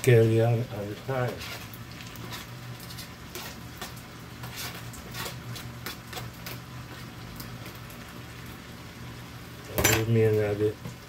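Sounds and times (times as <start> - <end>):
food crackling in a frying pan: 0.0 - 11.0.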